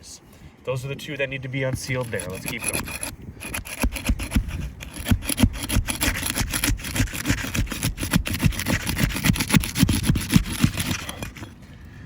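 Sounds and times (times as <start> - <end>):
shingles tearing: 1.8 - 11.5
steel bar scraping roof shingles: 1.8 - 11.6.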